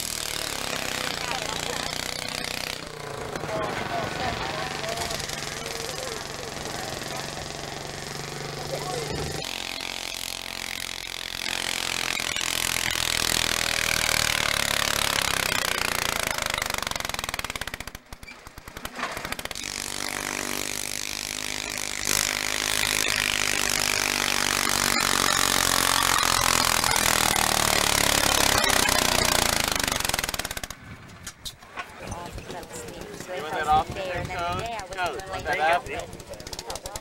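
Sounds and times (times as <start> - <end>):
tractor engine under load: 0.0 - 37.0.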